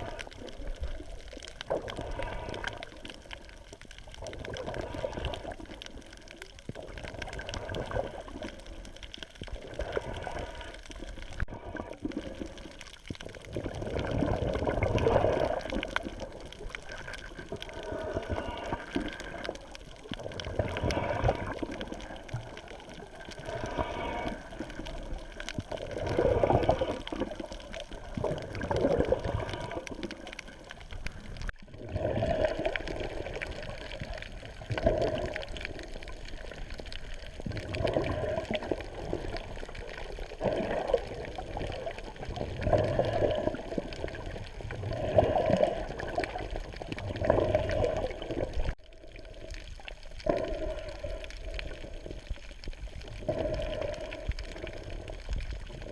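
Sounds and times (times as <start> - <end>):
water sloshing and splashing: 0.0 - 55.9.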